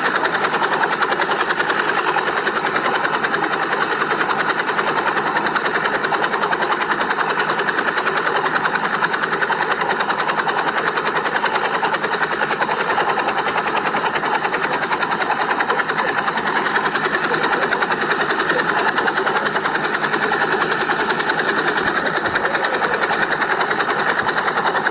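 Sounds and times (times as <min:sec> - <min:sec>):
small motor rattling: 0:00.0 - 0:24.9.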